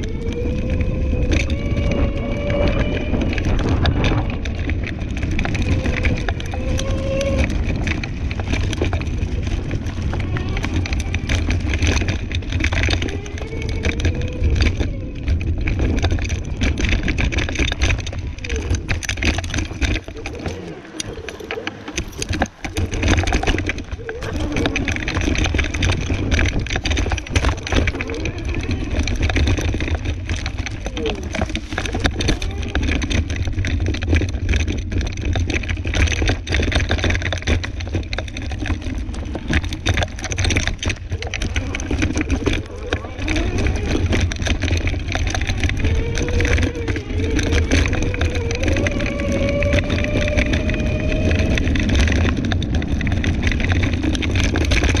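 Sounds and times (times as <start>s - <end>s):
knocks and rattles over bumps: 0.0s - 55.0s
scooter rumbling on dirt trail: 0.0s - 55.0s.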